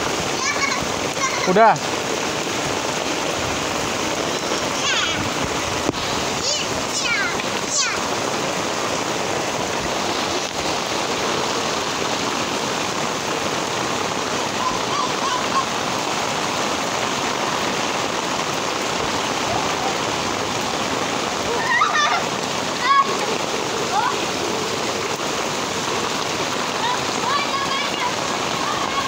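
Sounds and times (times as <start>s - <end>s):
heavy rain on pavement: 0.0s - 29.0s.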